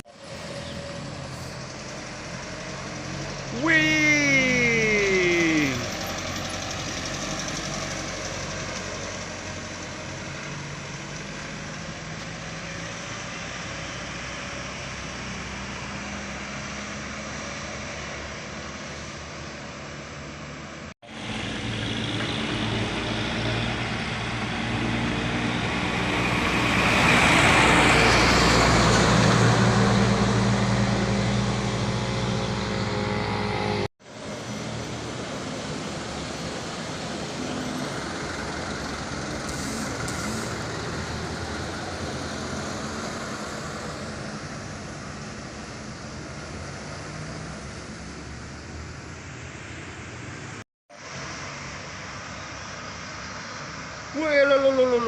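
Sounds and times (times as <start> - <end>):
diesel truck engines climbing: 0.0 - 55.0
traffic noise: 0.0 - 55.0
truck passing close: 0.0 - 55.0.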